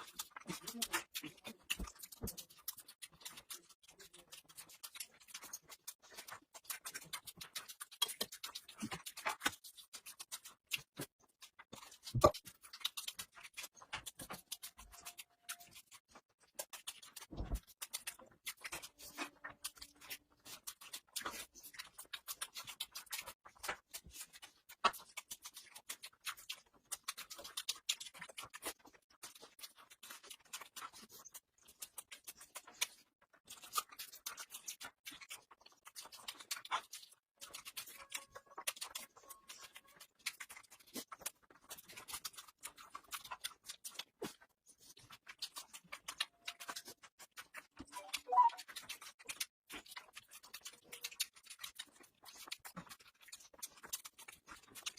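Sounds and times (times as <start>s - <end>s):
wet chewing smacks: 0.0s - 54.9s.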